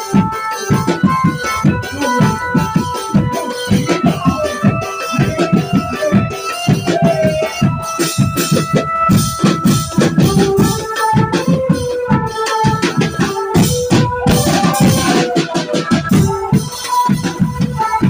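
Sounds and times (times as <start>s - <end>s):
fast dense drumming: 0.0s - 17.9s
held keyboard melody: 0.0s - 18.0s
jingling percussion: 0.0s - 18.0s.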